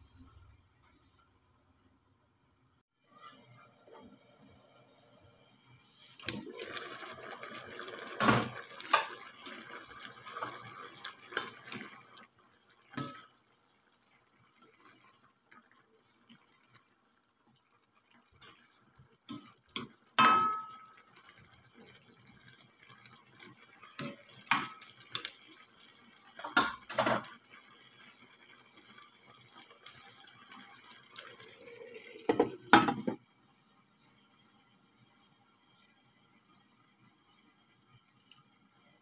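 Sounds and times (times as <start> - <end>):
food sizzling: 3.0 - 39.0.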